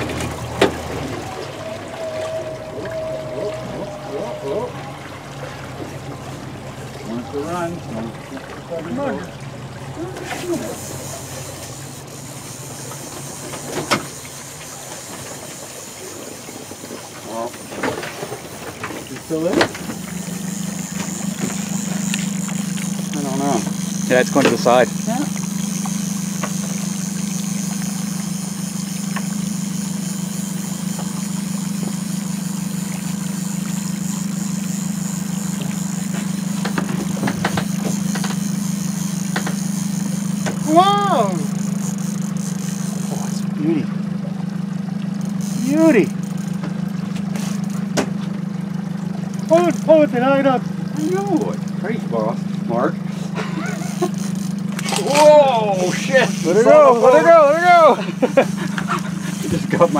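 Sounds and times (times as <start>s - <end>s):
boat motor humming: 0.0s - 59.9s
water noise: 0.0s - 59.9s
wind: 0.0s - 59.9s.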